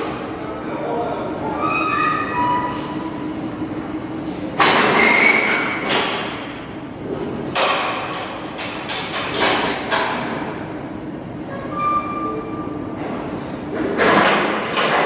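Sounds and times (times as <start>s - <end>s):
steady noisy background: 0.0s - 15.0s.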